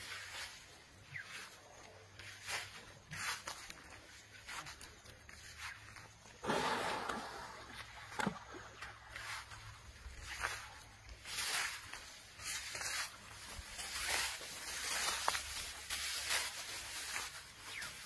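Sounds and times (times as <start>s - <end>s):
rustling in tall grass: 0.0s - 6.6s, 8.7s - 18.0s.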